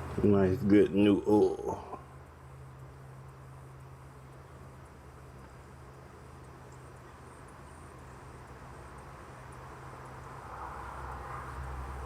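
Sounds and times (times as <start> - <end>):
soft hiss: 0.0 - 12.0
steady low hum: 0.0 - 12.0.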